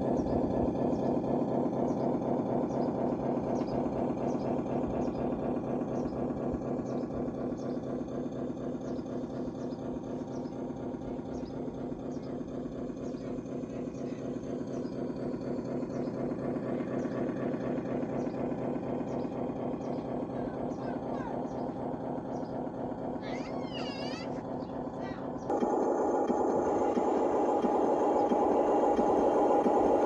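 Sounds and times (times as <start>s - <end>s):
electric drive and gearbox running: 0.0s - 30.0s.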